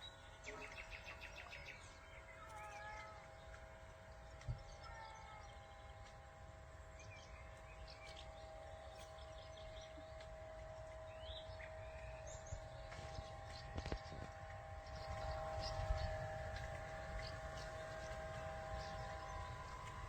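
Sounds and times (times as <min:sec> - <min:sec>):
small birds chirping: 0:00.0 - 0:20.0
steady hum: 0:00.0 - 0:20.0.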